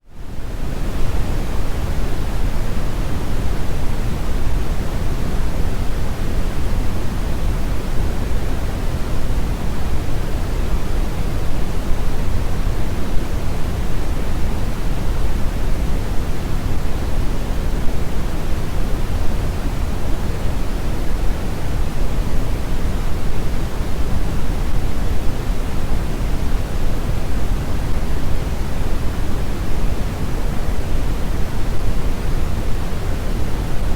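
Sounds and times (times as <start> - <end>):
brown noise rumbling hiss: 0.0 - 33.9.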